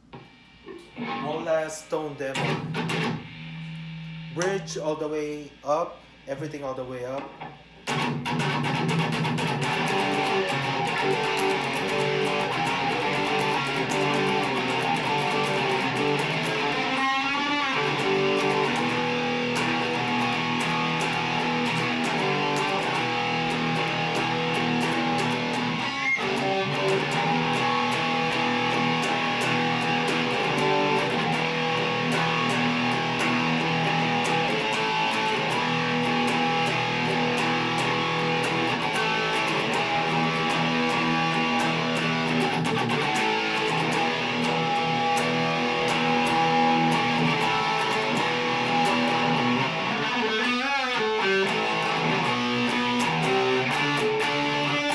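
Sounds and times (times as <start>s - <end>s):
electric guitar notes and chords: 0.0s - 5.8s, 7.1s - 54.9s.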